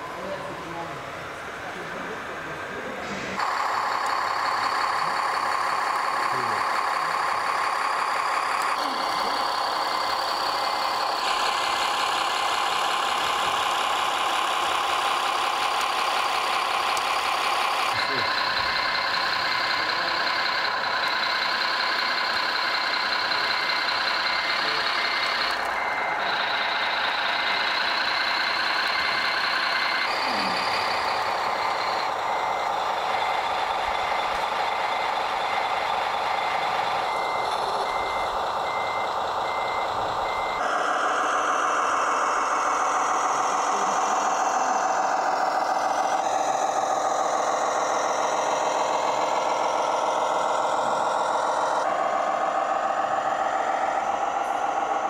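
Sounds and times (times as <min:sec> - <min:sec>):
simulated truck engine: 0:00.0 - 0:55.0
reversing beeper: 0:01.7 - 0:55.0.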